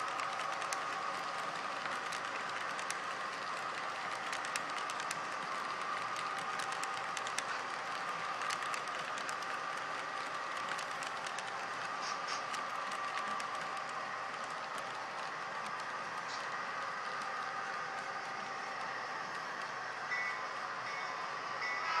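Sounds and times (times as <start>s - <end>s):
model train wheels clicking: 0.0s - 22.0s.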